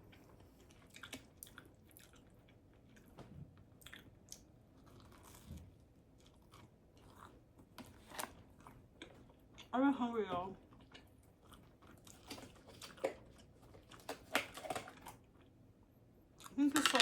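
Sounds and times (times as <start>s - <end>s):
close-up chewing: 0.0s - 9.7s, 10.6s - 15.6s.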